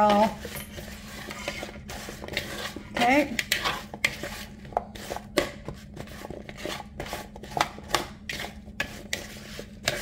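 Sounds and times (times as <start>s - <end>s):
spatula scraping plastic bowl: 0.0s - 10.0s.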